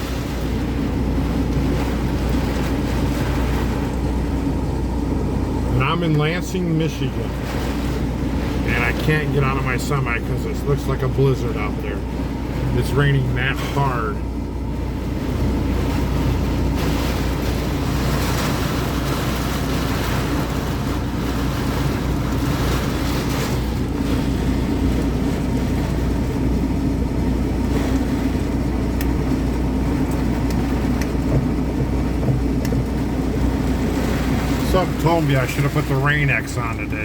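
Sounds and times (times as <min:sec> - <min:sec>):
constant low rumble: 0:00.0 - 0:37.0
heavy rain on truck cab: 0:00.0 - 0:37.0.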